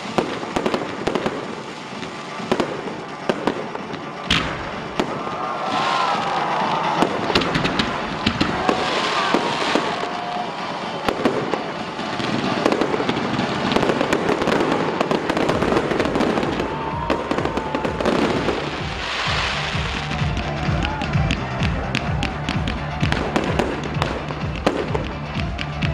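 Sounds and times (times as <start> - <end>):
fireworks crackling and banging: 0.0 - 25.9
music playing: 0.0 - 25.9.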